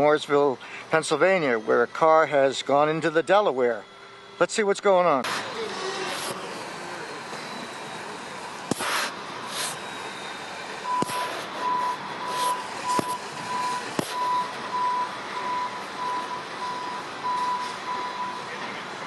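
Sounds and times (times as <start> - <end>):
outdoor background noise: 0.0 - 19.0
truck reversing alarm beeping: 0.0 - 19.0.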